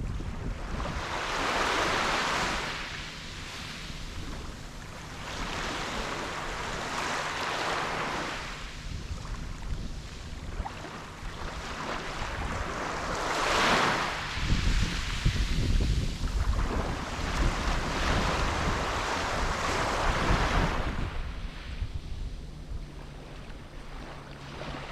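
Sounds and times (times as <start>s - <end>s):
wind buffeting microphone: 0.0s - 7.2s, 8.0s - 24.9s
small waves washing onto beach: 0.0s - 24.9s.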